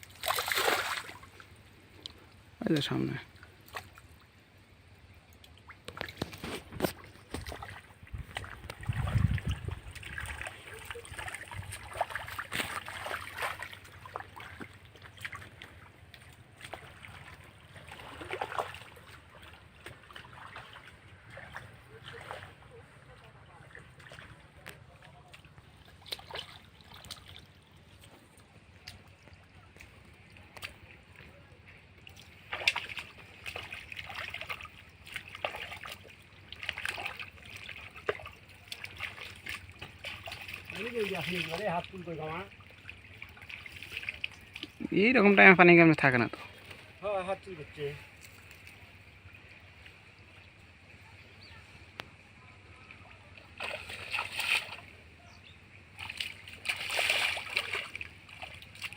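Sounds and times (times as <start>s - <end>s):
muddy water splashing: 0.0s - 58.9s.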